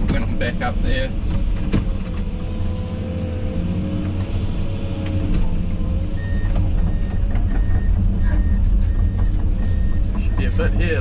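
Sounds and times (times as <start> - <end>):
constant whine: 0.0 - 11.0
diesel engine working: 0.0 - 11.0.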